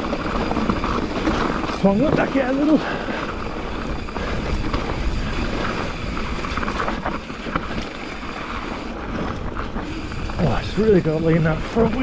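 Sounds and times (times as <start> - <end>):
bike rattling: 0.0 - 12.0
tyres crunching over gravel: 0.0 - 12.0.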